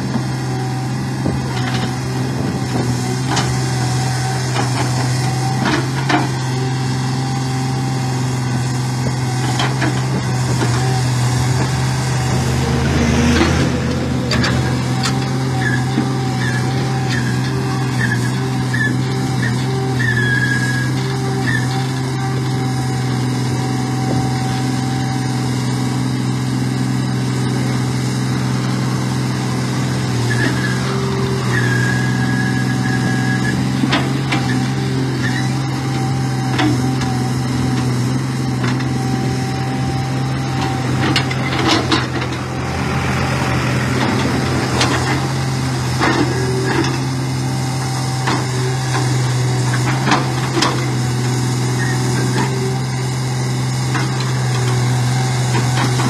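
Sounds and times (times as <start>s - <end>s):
large engine running steadily: 0.0s - 56.0s.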